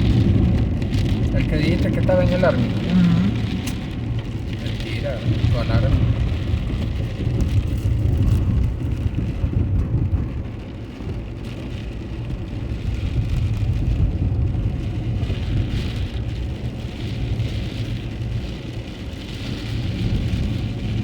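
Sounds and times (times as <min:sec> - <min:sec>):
car driving on wet road: 0:00.0 - 0:21.0
hiss of rain and spray: 0:00.0 - 0:21.0.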